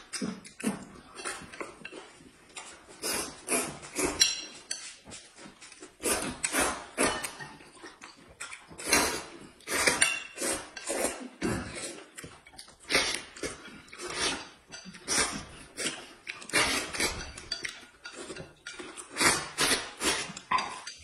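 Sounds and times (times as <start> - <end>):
chopsticks and dishes clinking: 0.0 - 21.0
slurping and chewing noodles: 0.0 - 21.0.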